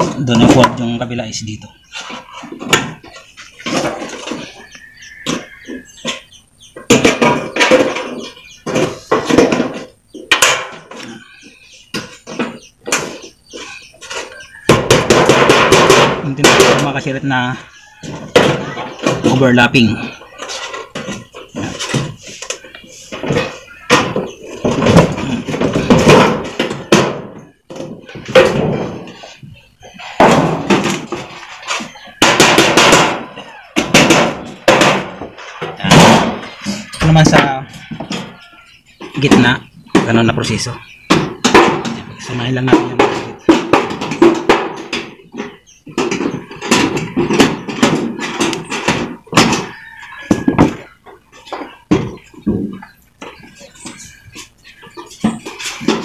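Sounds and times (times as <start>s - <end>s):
sheet metal clattering: 0.0s - 56.0s.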